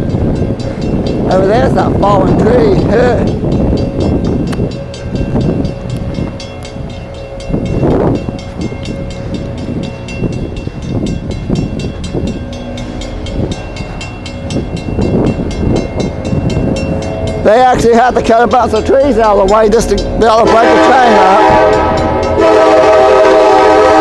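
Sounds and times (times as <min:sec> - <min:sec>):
train wheels ticking on rails: 0:00.0 - 0:24.0.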